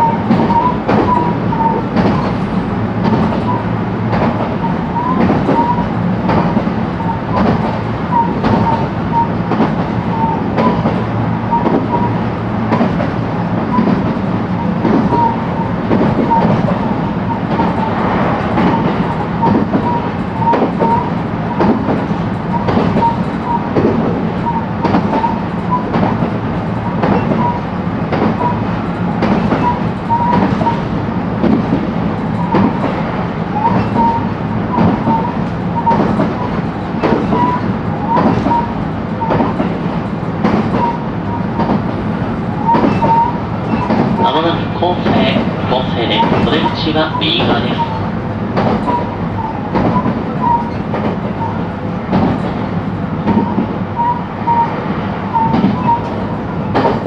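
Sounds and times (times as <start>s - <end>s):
wheels clacking over rail joints: 0.0s - 54.7s, 55.3s - 57.0s
train rolling rumble: 0.0s - 57.0s.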